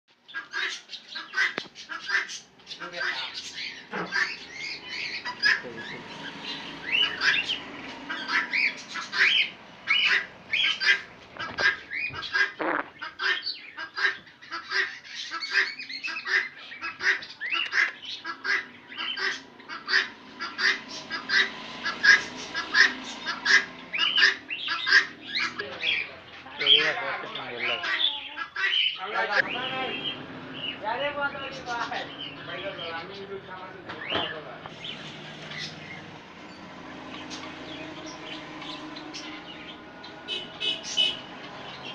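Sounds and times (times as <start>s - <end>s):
finches chirping and squawking: 0.1s - 41.9s.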